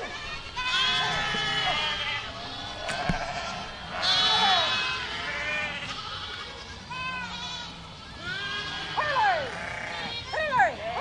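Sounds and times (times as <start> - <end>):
goats bleating: 0.0 - 11.0.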